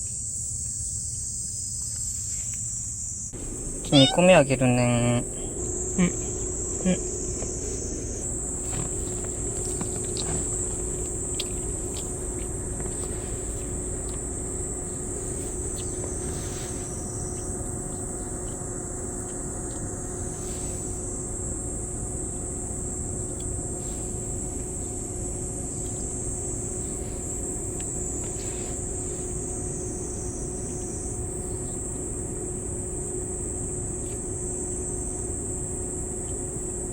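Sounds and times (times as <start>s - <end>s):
insects droning: 0.0s - 36.9s
low background hum: 0.0s - 36.9s.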